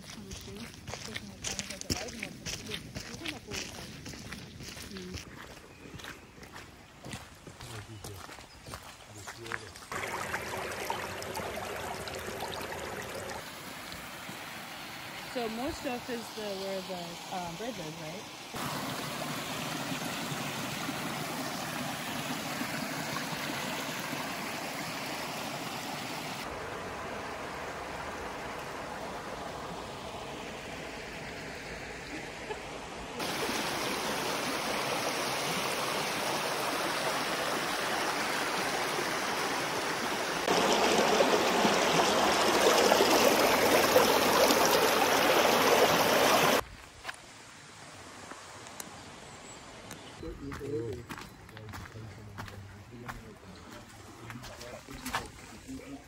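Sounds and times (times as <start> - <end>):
brook flowing over stones: 0.0 - 46.6.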